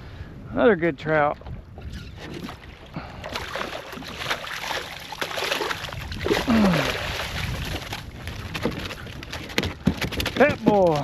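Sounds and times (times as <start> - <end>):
water splashing: 1.4 - 11.0.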